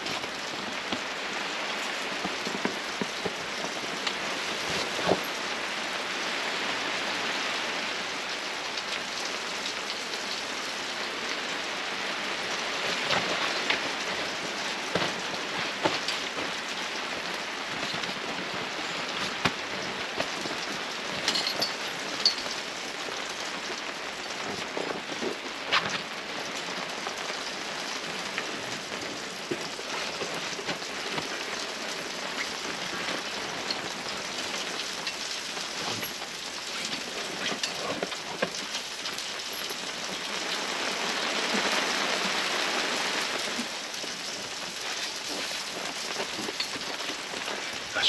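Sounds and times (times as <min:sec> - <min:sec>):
raindrops ticking: 0:00.0 - 0:48.0
steady rain falling: 0:00.0 - 0:48.0.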